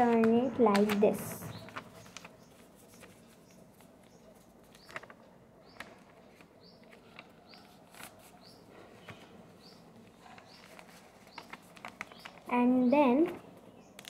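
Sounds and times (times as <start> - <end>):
paper rustling and crinkling: 0.0 - 12.5
bird chirping: 0.0 - 14.0.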